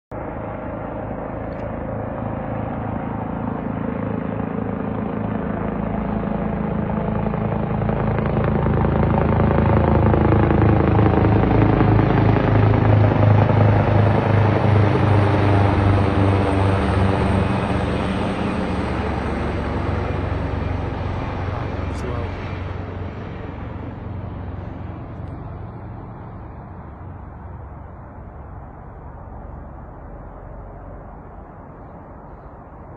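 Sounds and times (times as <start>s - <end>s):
helicopter rotor beat: 0.2s - 32.9s.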